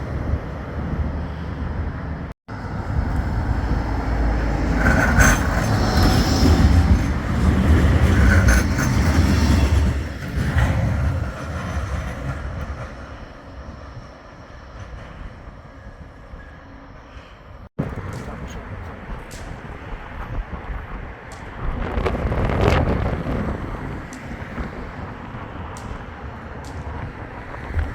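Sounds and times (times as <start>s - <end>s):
tram rumbling past: 0.0s - 27.9s.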